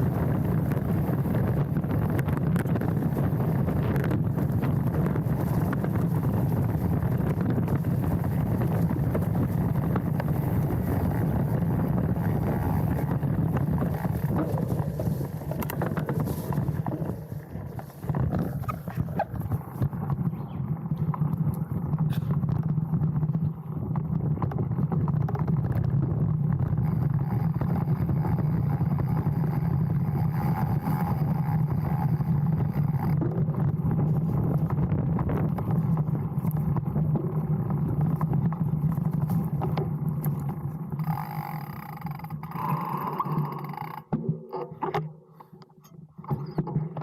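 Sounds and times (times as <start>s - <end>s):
bike tyre rumble on dirt: 0.0s - 44.8s
bike rattling and knocking: 0.0s - 47.0s.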